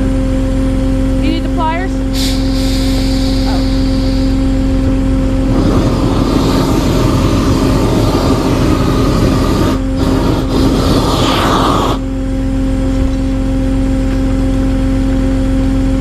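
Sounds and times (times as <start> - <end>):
engine hum: 0.0 - 16.0
flamethrower rushing: 2.0 - 16.0.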